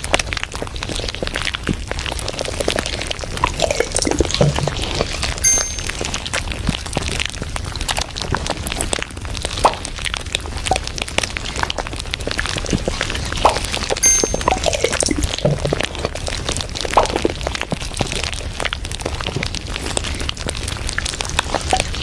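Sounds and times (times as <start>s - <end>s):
dense crackling and popping: 0.0s - 22.0s.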